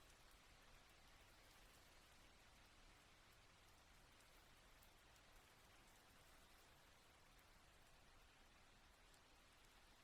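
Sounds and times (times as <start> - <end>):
faint drip ticks: 0.0 - 10.0
faint hiss of rain: 0.0 - 10.0.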